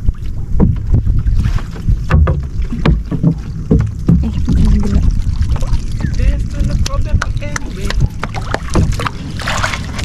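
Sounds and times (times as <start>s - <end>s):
water moving around boat: 0.0s - 10.0s
wind rumbling on microphone: 0.0s - 10.0s
knocks and splashes of net hauling: 0.6s - 5.9s, 6.8s - 10.0s.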